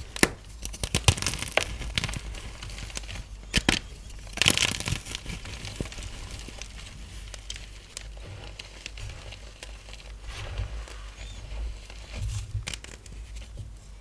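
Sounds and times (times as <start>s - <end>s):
chalk being crushed by hand: 0.0s - 13.2s.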